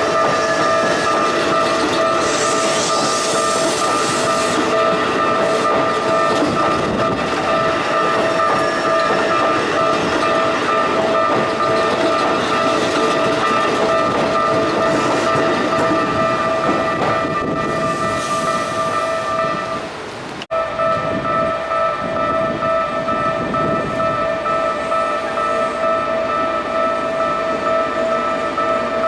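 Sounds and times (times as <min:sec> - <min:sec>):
level crossing bells ringing: 0:00.0 - 0:29.0
train wheels clattering on rails: 0:00.0 - 0:29.0.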